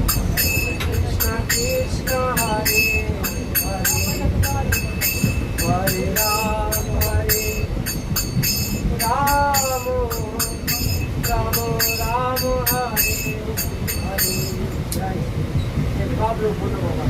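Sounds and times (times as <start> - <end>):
jingling metal hand percussion: 0.0 - 15.0
moving train rumble: 0.0 - 17.0
person singing devotional song: 0.4 - 15.2.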